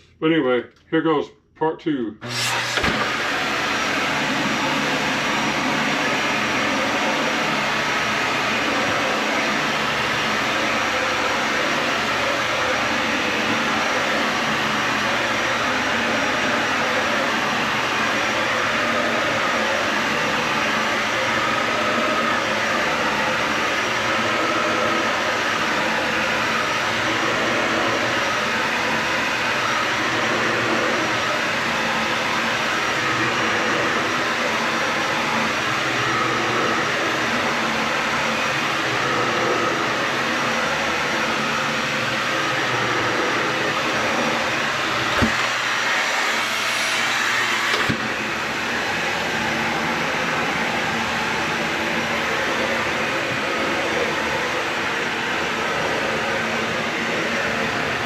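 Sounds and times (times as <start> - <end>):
vacuum cleaner on carpet: 2.2 - 58.0.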